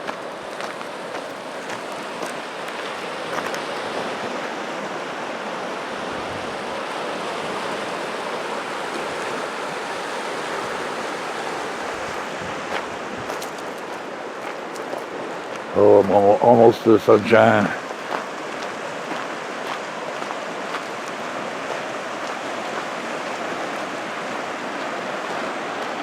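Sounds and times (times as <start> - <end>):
fast-flowing river water: 0.0 - 26.0.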